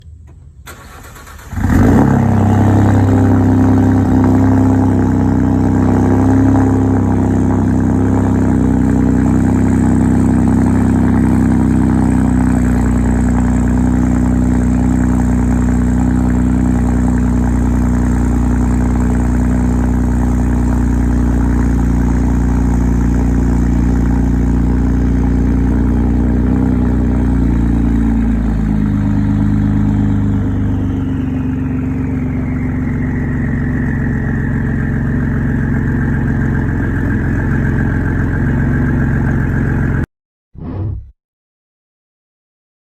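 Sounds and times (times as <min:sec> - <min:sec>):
truck engine starting and idling: 0:00.0 - 0:40.1.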